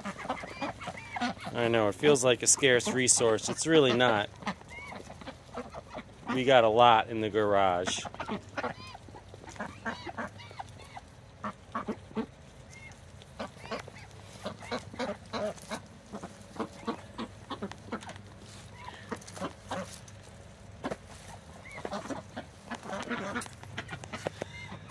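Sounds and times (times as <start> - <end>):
duck bills dabbling in feed: 0.0 - 24.9
ducks quacking softly: 0.0 - 24.9.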